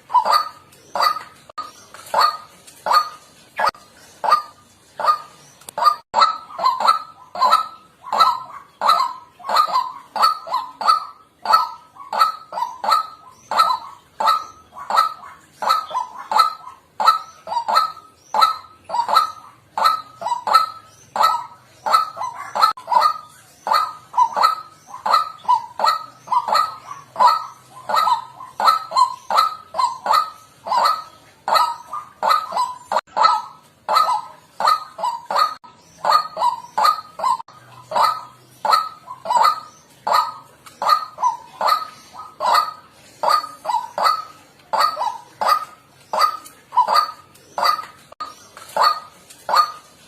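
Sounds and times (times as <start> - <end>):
waterhen calling: 0.0 - 50.0.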